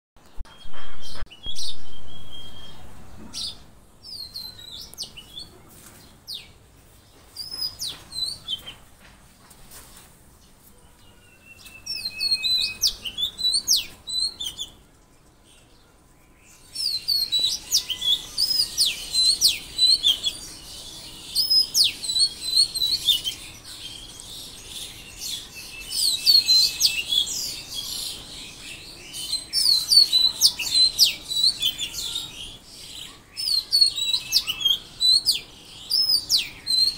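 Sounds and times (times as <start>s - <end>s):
songbirds chirping: 0.2s - 36.9s.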